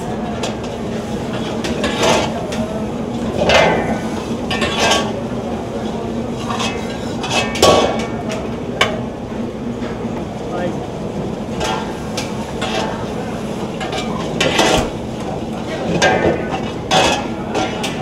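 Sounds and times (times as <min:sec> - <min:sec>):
kitchen hum: 0:00.0 - 0:18.0.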